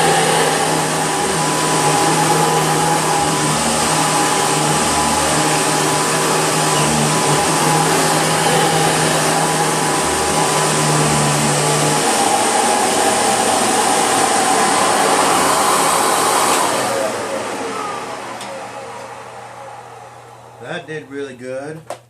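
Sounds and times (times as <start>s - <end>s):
motor winding down whine: 0.0s - 20.9s
vacuum cleaner running: 0.0s - 21.2s.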